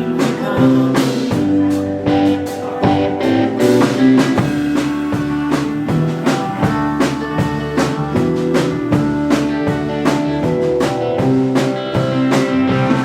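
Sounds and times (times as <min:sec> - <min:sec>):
drum kit beat: 0:00.0 - 0:13.0
electric guitars: 0:00.0 - 0:13.0.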